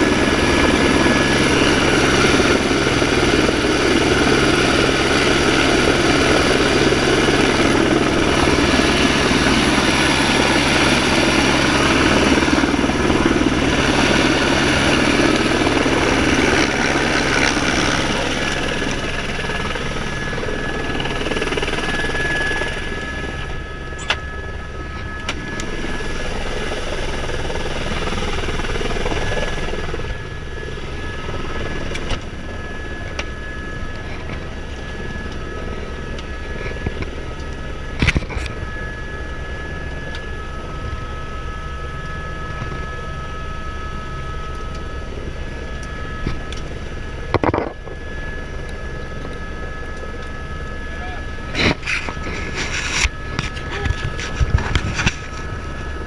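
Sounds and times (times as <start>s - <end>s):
helicopter engine and rotor: 0.0s - 56.0s
high engine whine: 0.0s - 56.0s.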